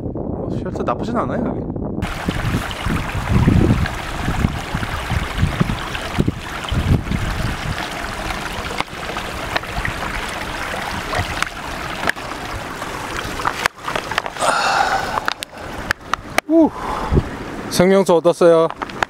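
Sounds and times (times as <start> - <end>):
stream water rushing: 2.0 - 19.0.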